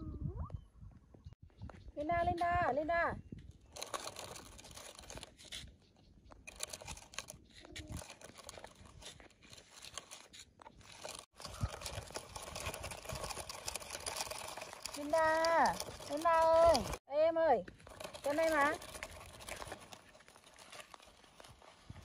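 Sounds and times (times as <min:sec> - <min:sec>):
toy truck wheels rolling over dirt: 0:03.6 - 0:22.0.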